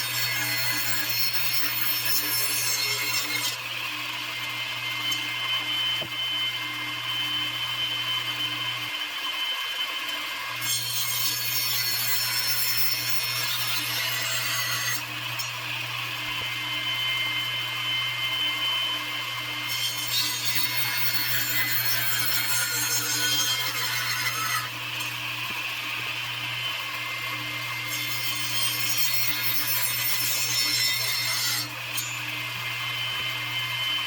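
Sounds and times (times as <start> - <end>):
electric saw cutting wood: 0.0 - 34.0.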